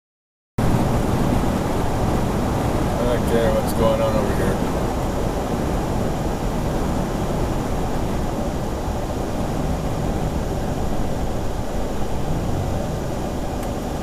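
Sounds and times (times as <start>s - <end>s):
vehicle driving rumble: 0.6s - 14.0s.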